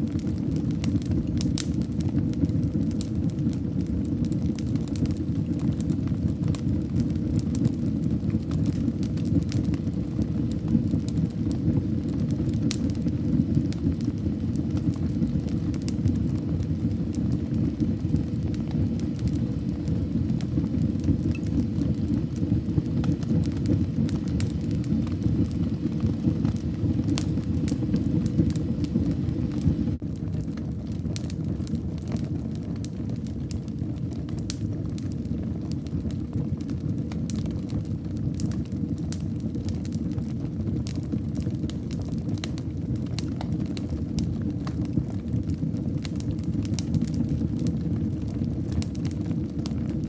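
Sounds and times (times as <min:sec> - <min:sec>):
fire crackling in fireplace: 0:00.0 - 0:50.0.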